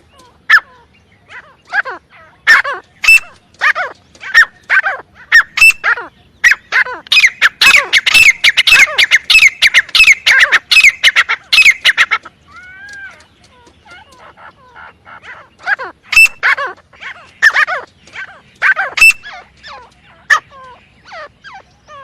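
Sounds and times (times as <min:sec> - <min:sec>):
francolin calling: 0:00.0 - 0:22.0.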